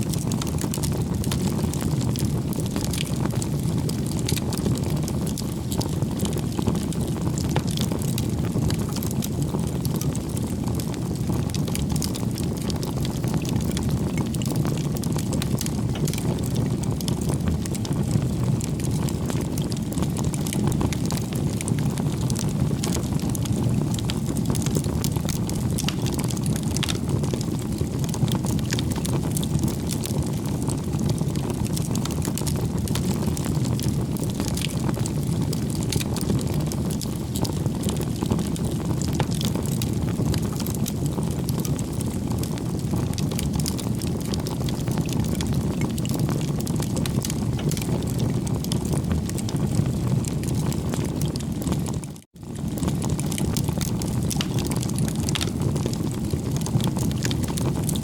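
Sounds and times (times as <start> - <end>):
fire crackling and popping: 0.0 - 58.0
low rush of flames: 0.0 - 58.0.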